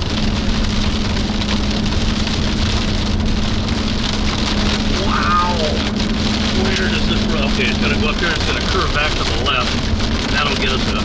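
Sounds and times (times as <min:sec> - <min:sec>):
constant low hum: 0:00.0 - 0:11.0
rain pelting vehicle roof: 0:00.0 - 0:11.0
road noise: 0:00.0 - 0:11.0.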